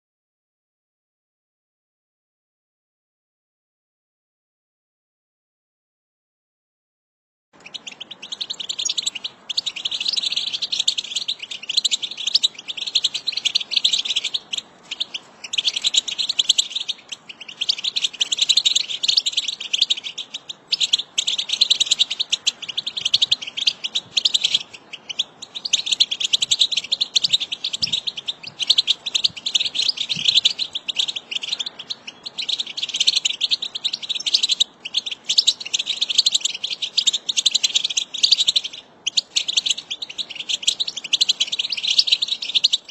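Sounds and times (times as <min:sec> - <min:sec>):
goldfinch twittering song: 0:07.6 - 0:42.9.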